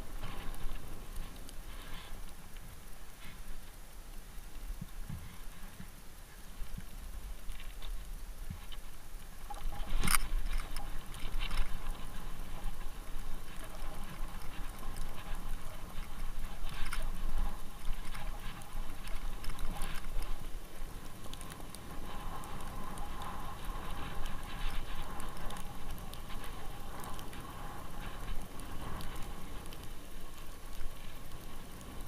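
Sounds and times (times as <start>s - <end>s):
bicycle tyres crunching on snow: 0.0s - 32.0s.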